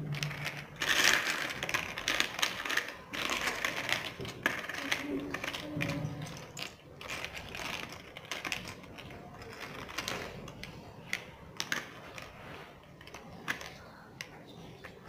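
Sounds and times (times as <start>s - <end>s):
plastic game counters clicking: 0.0s - 15.0s.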